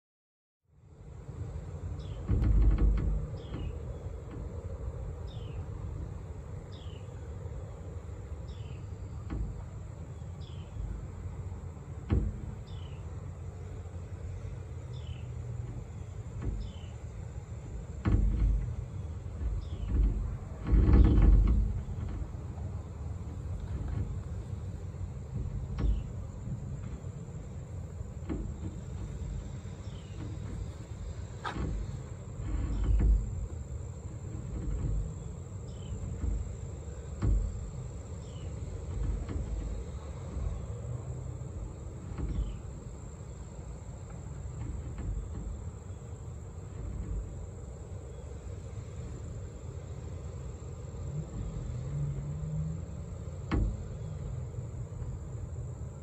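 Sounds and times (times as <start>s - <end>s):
high insect trill: 4.7s - 56.0s.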